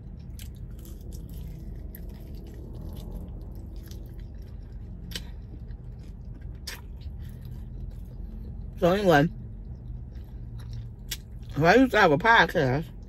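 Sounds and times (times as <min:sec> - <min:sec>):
person chewing: 0:00.0 - 0:11.6.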